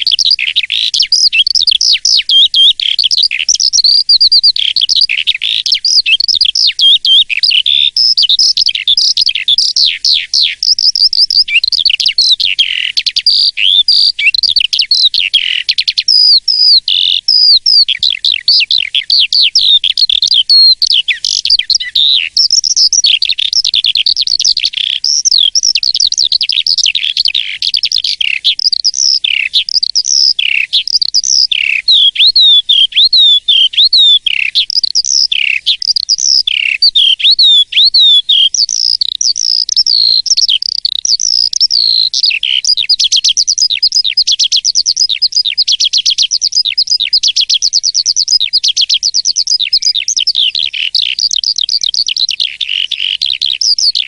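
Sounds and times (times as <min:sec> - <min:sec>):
starling singing: 0:00.0 - 0:54.0.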